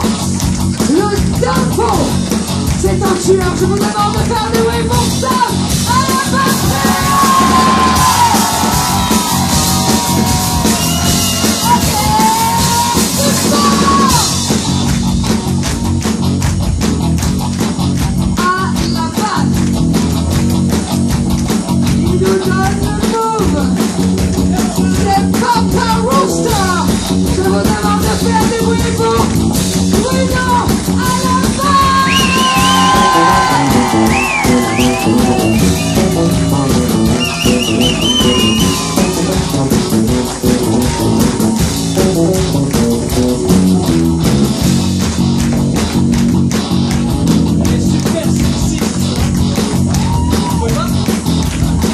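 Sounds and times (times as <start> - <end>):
rock band playing: 0.0 - 51.9.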